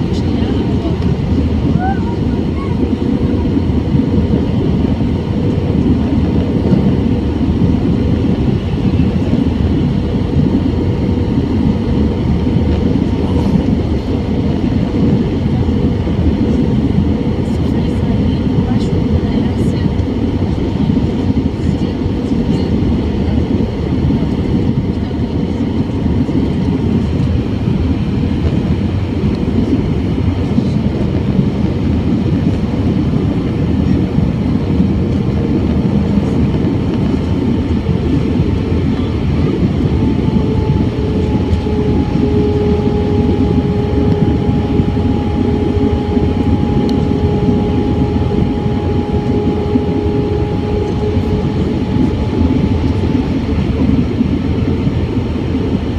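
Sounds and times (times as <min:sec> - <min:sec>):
airplane cabin air rush: 0:00.0 - 0:55.9
jet engine drone: 0:00.0 - 0:55.9.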